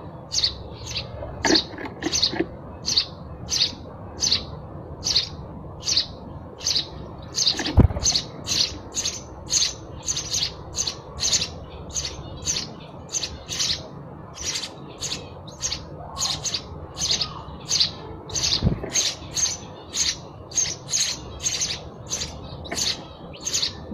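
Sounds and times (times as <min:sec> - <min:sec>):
sparrow chirping: 0:00.2 - 0:23.9.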